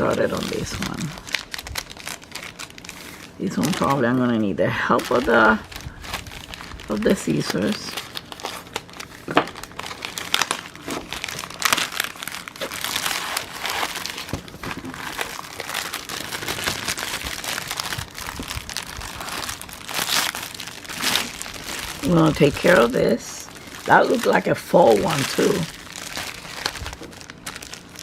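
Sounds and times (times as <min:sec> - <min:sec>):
packaging crinkling and rustling: 0:00.0 - 0:28.0.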